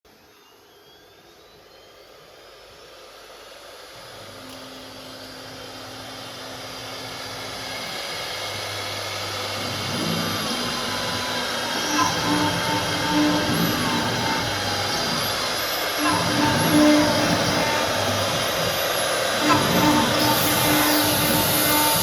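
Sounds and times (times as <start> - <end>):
cnc router whirring: 0.1 - 22.0.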